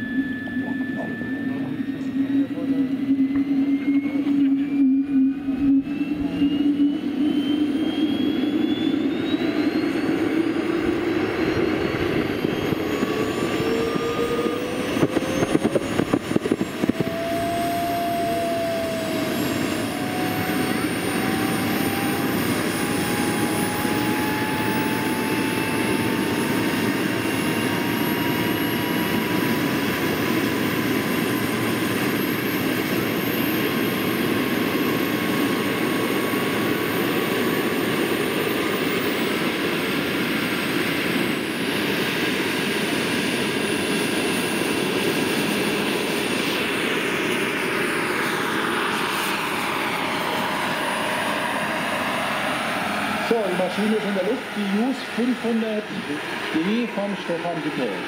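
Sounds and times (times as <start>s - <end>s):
model turbine whine: 0.0s - 58.0s.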